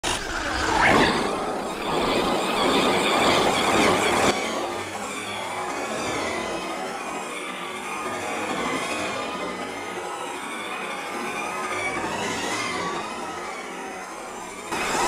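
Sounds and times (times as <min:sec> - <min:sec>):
rc car motor and tyres: 0:00.0 - 0:15.0.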